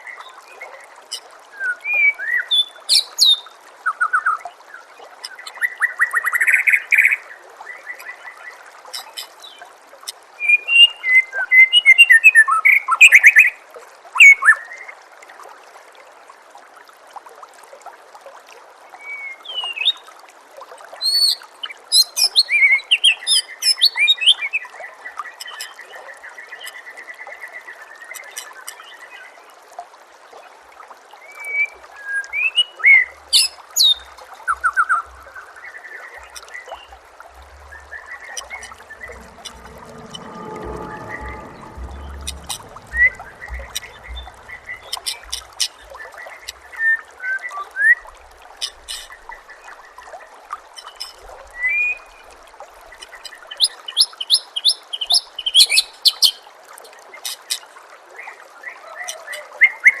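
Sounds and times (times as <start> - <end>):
trickling water: 0.0 - 60.0.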